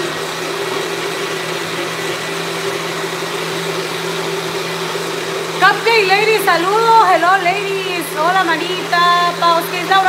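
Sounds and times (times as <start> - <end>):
kitchen appliance motor whirring: 0.0 - 10.0.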